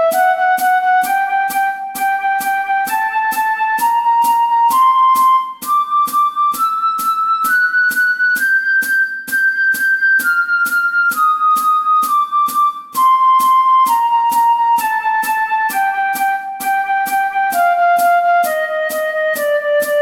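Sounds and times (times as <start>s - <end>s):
flute playing slow notes: 0.0s - 20.0s
steady ticking beat: 0.0s - 20.0s.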